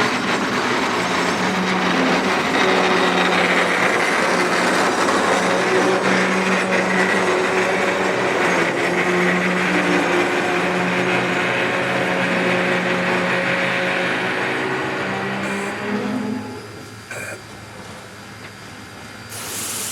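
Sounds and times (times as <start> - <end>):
locomotive engine drone: 0.0 - 19.4
wheel and rail noise: 0.0 - 19.9.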